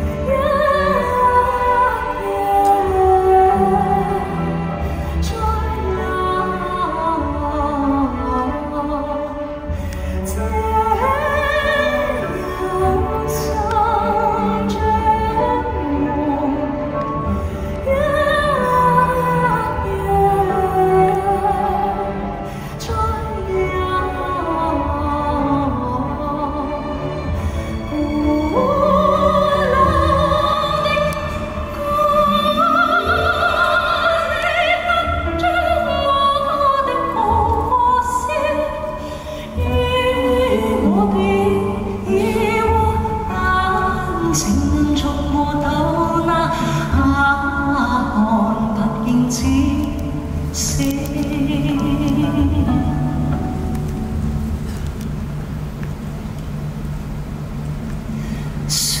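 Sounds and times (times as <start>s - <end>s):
person singing with vibrato: 0.0s - 55.2s
instrumental accompaniment: 0.0s - 58.7s.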